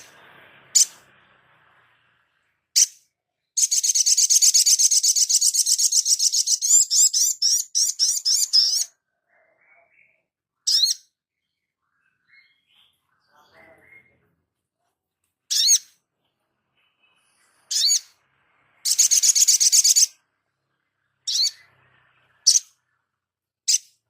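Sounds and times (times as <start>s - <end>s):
small bird singing trills: 2.7s - 14.3s, 15.5s - 24.0s.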